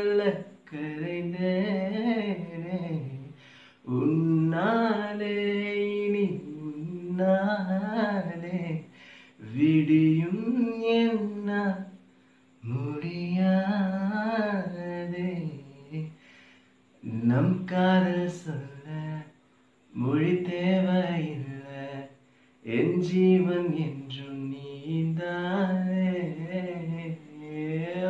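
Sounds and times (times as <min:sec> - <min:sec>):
man singing: 0:00.0 - 0:12.0, 0:12.6 - 0:16.2, 0:17.0 - 0:28.0.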